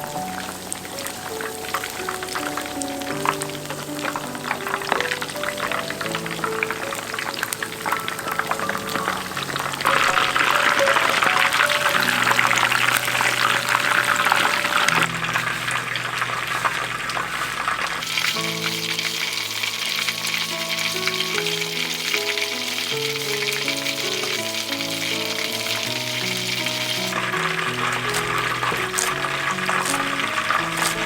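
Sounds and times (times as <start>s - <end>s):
food sizzling in a pan: 0.0s - 31.0s
slow background music: 0.0s - 31.0s.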